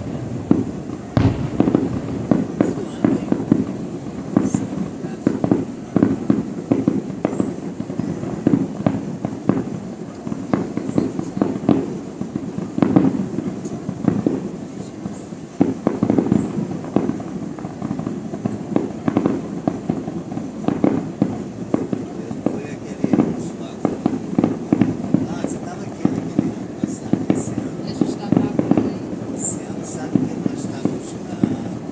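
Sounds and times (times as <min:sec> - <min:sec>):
fireworks banging: 0:00.0 - 0:31.9.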